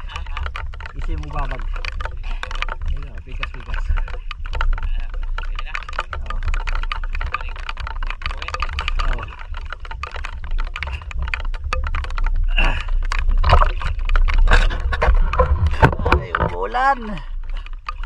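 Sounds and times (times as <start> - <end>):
crackling clicks of water: 0.0 - 18.0
wind on microphone: 0.0 - 18.0.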